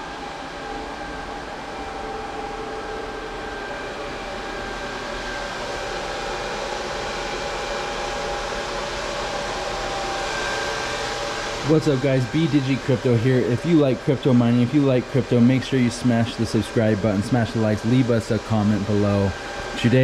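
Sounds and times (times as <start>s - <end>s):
constant high whine: 0.0s - 20.0s
electric cooling fans whirring: 0.0s - 20.0s.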